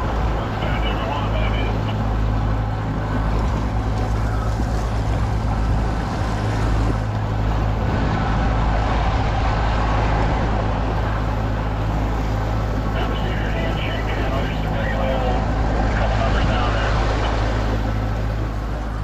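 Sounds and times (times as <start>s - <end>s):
boat engine droning: 0.0s - 19.0s
rush of wind and water: 0.0s - 19.0s.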